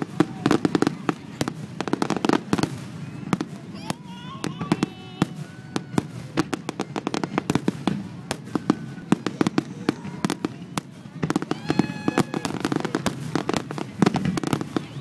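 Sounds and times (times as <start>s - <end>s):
firework bangs and crackling pops: 0.0s - 15.0s.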